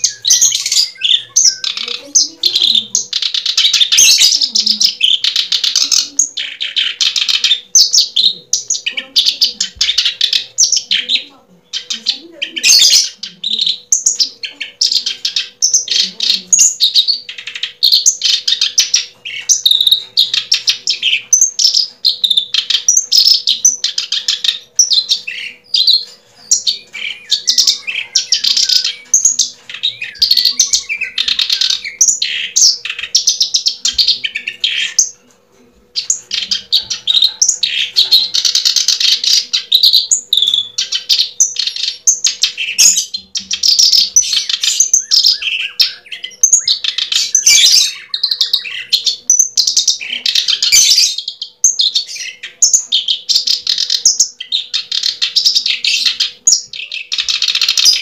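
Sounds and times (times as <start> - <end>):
bird chirping and twittering: 0.0 - 58.0.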